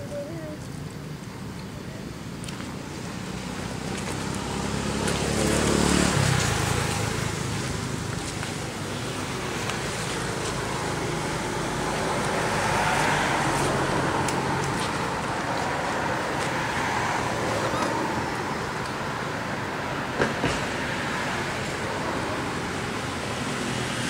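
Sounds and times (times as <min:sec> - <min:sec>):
vehicle passing on road: 0:02.1 - 0:24.0.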